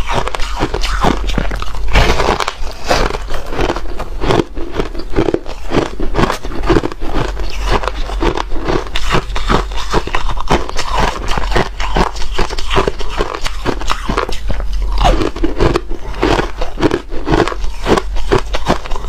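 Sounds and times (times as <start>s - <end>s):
ice crunching being chewed: 0.0s - 19.0s.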